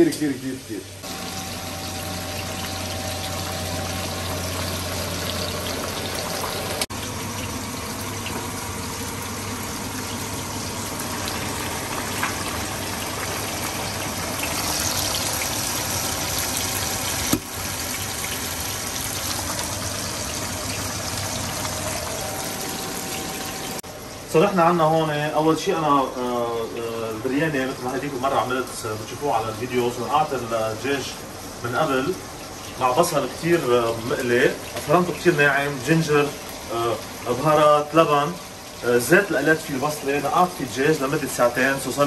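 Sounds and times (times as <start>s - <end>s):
running water: 0.0s - 42.0s.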